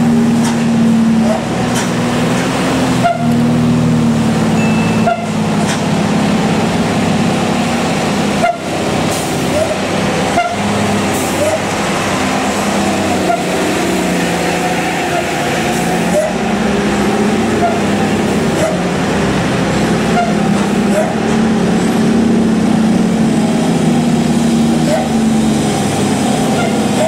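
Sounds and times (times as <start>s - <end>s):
cars and motorbikes passing: 0.0s - 27.0s
diesel trucks climbing uphill: 0.0s - 27.0s.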